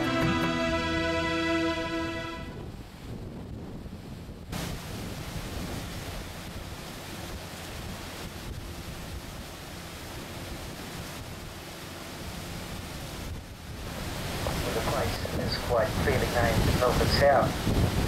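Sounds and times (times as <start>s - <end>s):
boat engine hum: 0.0s - 18.0s
rushing water: 0.0s - 18.0s
wind buffeting microphone: 2.3s - 18.0s.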